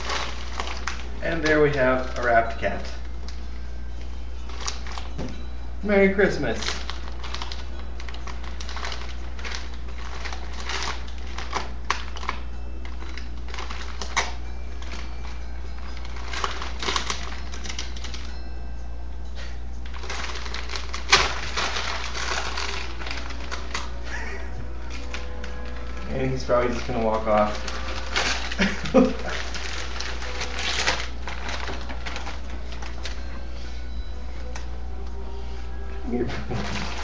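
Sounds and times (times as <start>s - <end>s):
wrapping paper crinkling: 0.0s - 3.6s, 4.4s - 18.4s, 19.8s - 35.1s, 35.8s - 37.0s.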